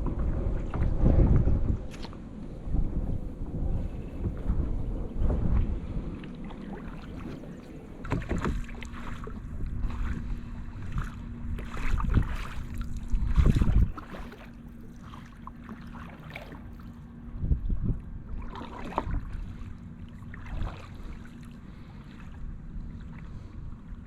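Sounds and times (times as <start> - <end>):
paddle splashing through water: 0.0 - 17.0, 18.3 - 23.6
faint steady hum: 0.0 - 24.0
wind rumble on microphone: 0.0 - 24.0.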